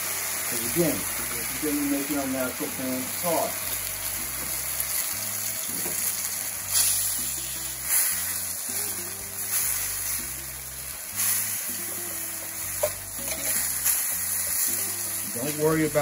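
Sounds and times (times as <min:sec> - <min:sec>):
background music: 0:00.0 - 0:16.0
food sizzling in a skillet: 0:00.0 - 0:16.0.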